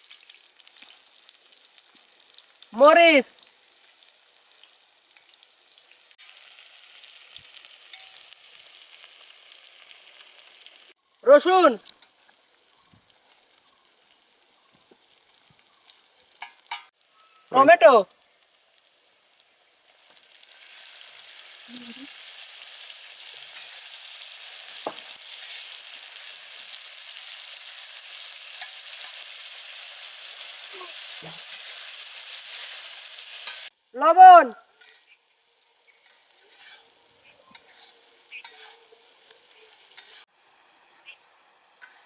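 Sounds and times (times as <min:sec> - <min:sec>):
oil sizzling in a pan: 0:00.0 - 0:11.2, 0:11.9 - 0:34.0, 0:34.6 - 0:42.0.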